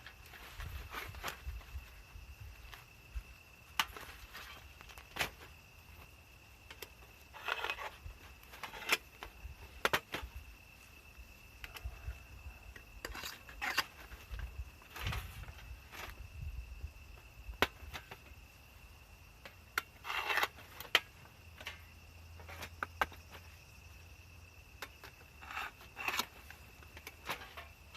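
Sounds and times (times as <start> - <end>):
high insect trill: 0.0 - 27.9.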